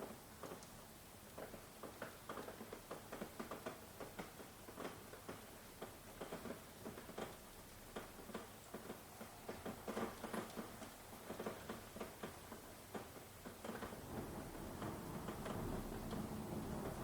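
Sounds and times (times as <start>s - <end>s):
faint steady hiss: 0.0s - 17.0s
raindrops pattering on hard surface: 0.0s - 17.0s.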